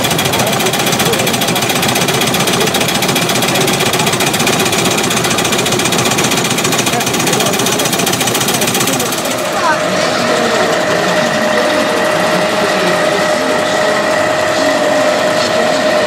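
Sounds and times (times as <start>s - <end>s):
model engines clattering: 0.0s - 16.0s.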